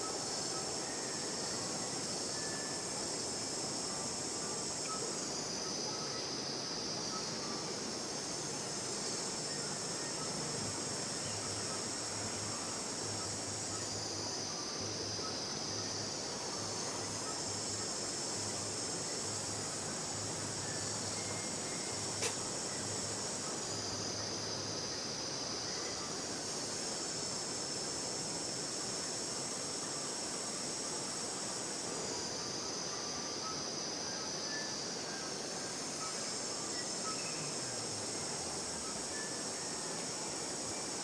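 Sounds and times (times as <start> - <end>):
constant hiss: 0.0 - 41.0
high-pitched insect chorus: 0.0 - 41.0.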